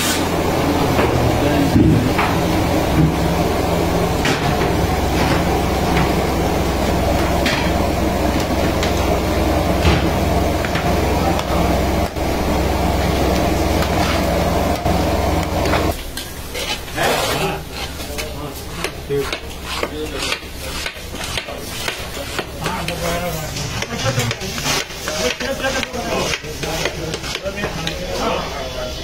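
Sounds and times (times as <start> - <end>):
kitchen machinery droning: 0.0 - 29.0.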